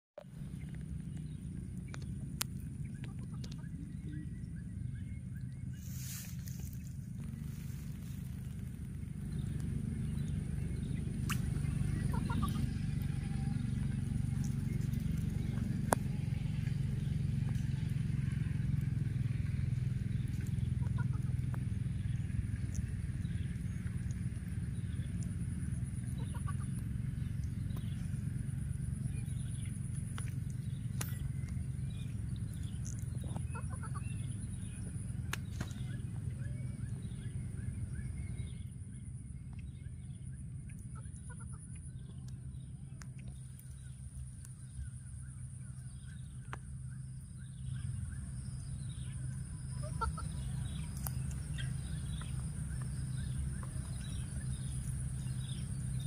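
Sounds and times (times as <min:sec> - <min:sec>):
steady low rumble: 0:00.2 - 0:56.0.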